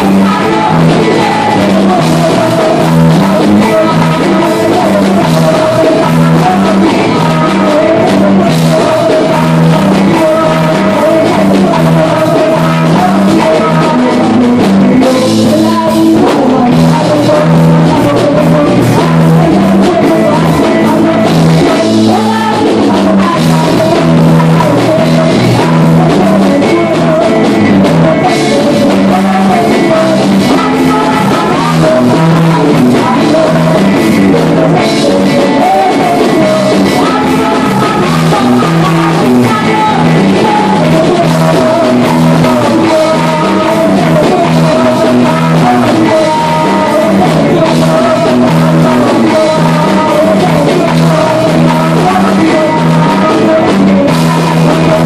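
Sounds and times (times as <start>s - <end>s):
drums: 0.0s - 55.0s
electric guitar: 0.0s - 55.0s
woman singing into microphone: 0.0s - 55.0s.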